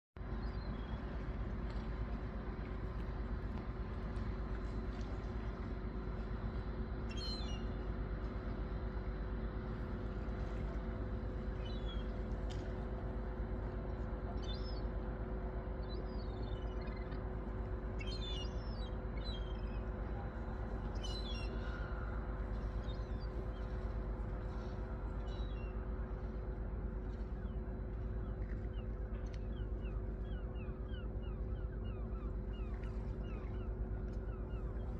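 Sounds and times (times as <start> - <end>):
low mechanical hum: 0.2 - 34.9.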